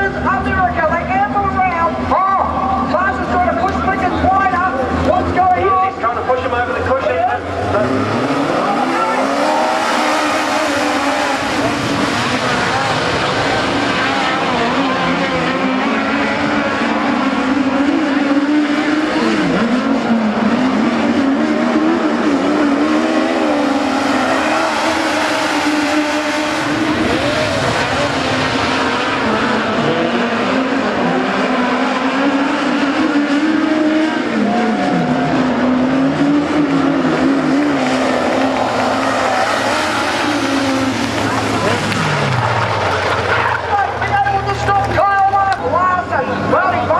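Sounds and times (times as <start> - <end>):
race car engines at high revs: 0.0 - 46.9.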